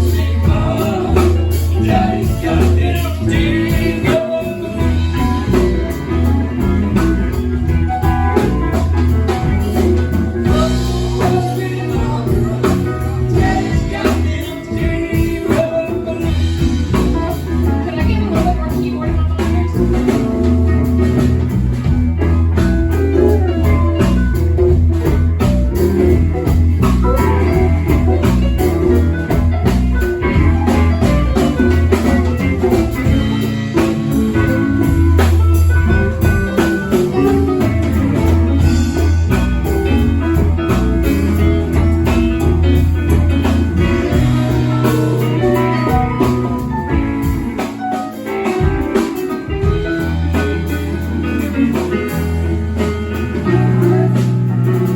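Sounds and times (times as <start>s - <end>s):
bass line: 0.0s - 54.9s
drum kit: 0.0s - 54.9s
guitar: 0.0s - 54.9s.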